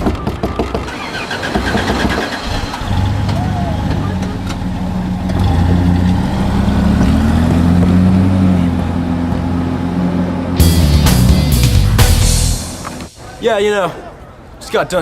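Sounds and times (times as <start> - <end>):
vehicle engine accelerating: 1.0 - 13.2.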